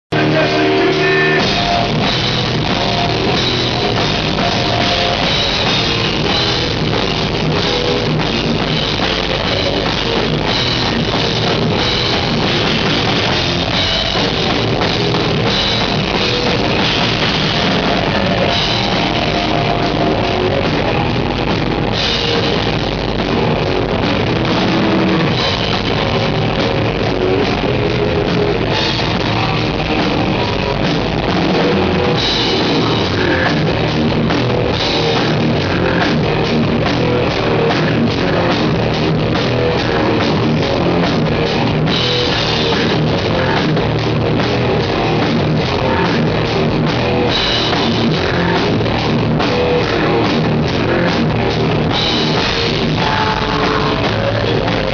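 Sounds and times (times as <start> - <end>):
death metal band playing live: 0.1 - 54.9.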